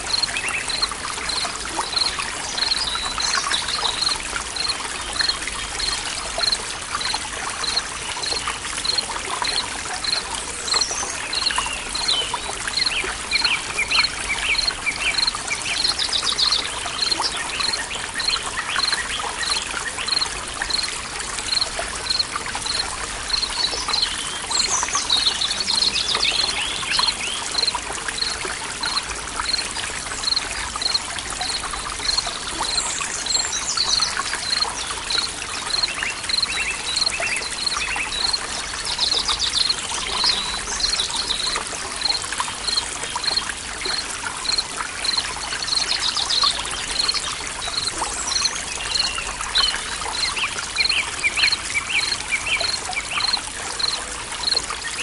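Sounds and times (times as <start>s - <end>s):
forest stream trickling: 0.0s - 55.0s.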